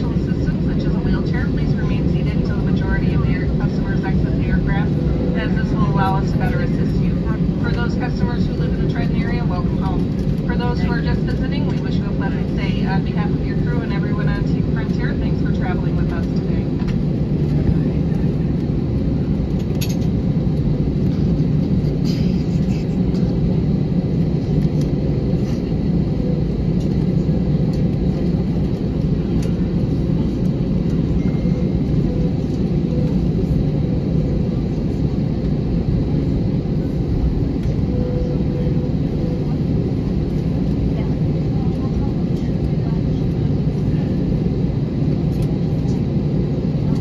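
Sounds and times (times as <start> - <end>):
cabin air running: 0.0 - 47.0
jet engines idling: 0.0 - 47.0.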